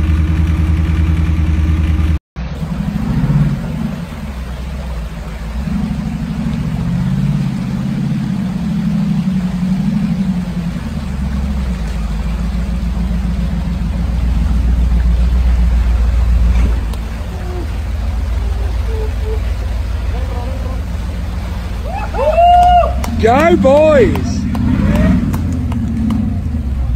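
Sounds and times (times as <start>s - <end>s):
off-road vehicle engine revving: 0.0s - 26.9s.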